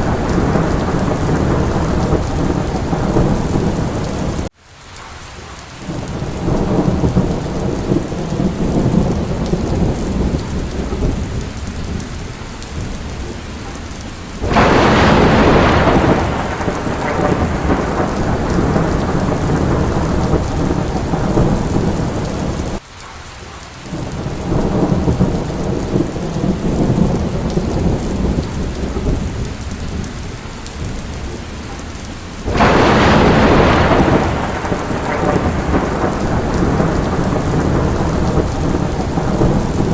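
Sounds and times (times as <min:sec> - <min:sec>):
loud crack of thunder: 0:00.0 - 0:04.5, 0:05.9 - 0:12.1, 0:14.4 - 0:22.8, 0:23.9 - 0:30.1, 0:32.5 - 0:39.9
rumble of thunder: 0:00.0 - 0:04.5, 0:05.9 - 0:22.8, 0:23.9 - 0:39.9
steady rain: 0:00.0 - 0:39.9.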